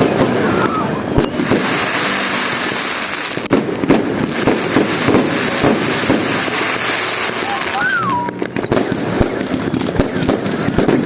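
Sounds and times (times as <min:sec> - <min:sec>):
firework bangs and pops: 0:00.0 - 0:11.0
fireworks crackling hiss: 0:00.0 - 0:11.0.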